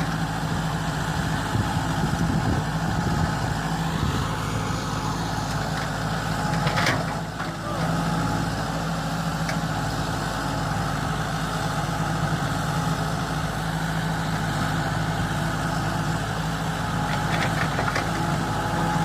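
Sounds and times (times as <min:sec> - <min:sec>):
backhoe engine idling: 0:00.0 - 0:19.0.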